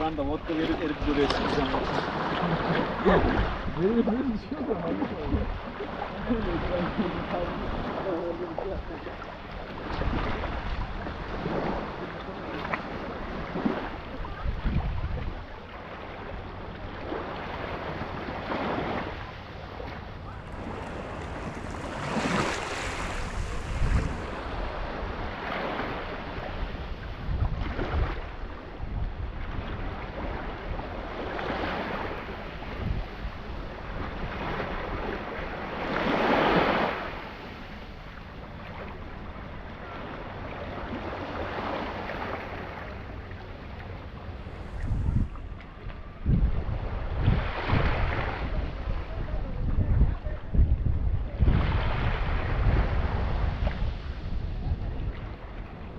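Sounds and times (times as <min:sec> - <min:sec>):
wind buffeting microphone: 0:00.0 - 0:39.6, 0:40.3 - 0:55.9
sea waves washing: 0:00.0 - 0:50.4, 0:51.0 - 0:55.9.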